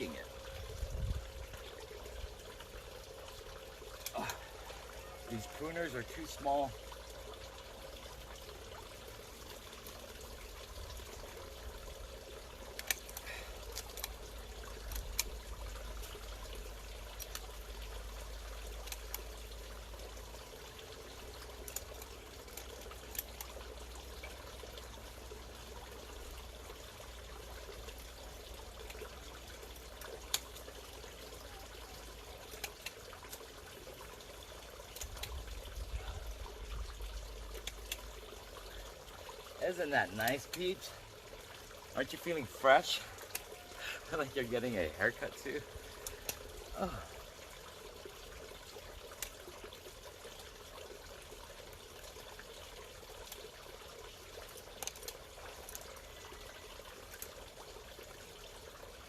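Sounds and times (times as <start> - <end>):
bubbling water trickling: 0.0 - 59.0.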